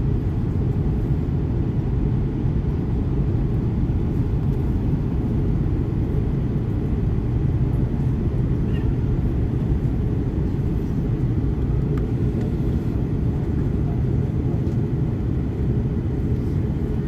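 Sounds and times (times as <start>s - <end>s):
aircraft engine and airflow drone: 0.0s - 17.0s.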